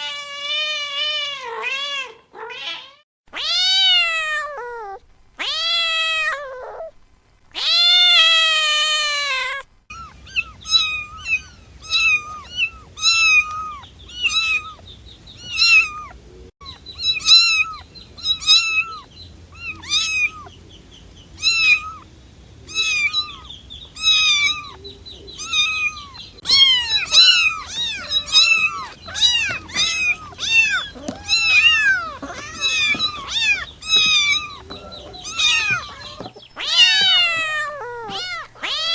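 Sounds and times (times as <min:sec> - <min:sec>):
cats meowing: 0:00.0 - 0:06.9, 0:07.6 - 0:20.6, 0:21.4 - 0:38.9.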